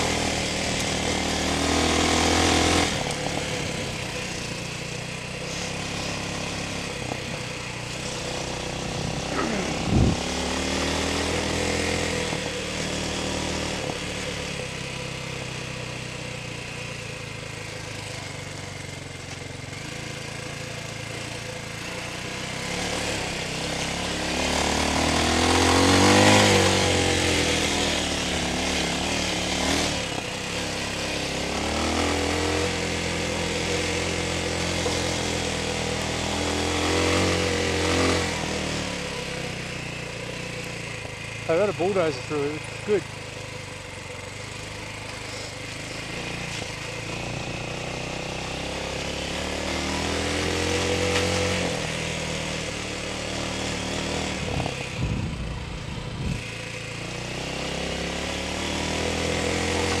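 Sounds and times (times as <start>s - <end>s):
dirt bike engine revving: 0.0s - 60.0s
wind and tyre noise: 0.0s - 60.0s.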